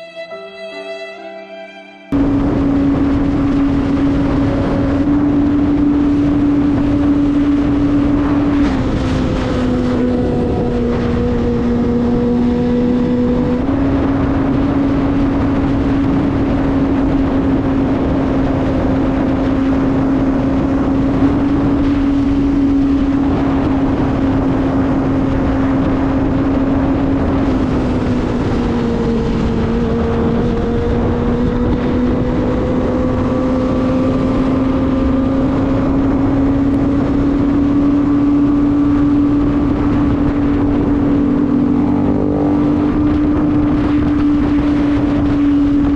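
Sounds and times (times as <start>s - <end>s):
motorcycle engine at high revs: 2.2s - 45.9s.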